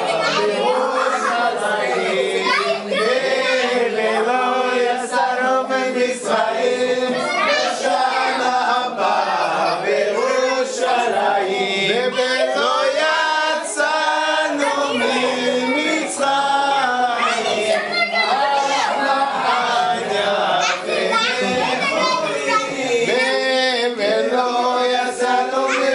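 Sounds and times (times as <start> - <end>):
group singing unaccompanied: 0.0 - 25.9.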